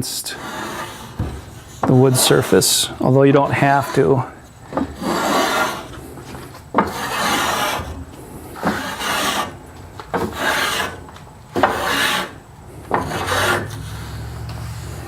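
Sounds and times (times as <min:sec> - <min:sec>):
blade shaving wood: 0:00.3 - 0:15.0.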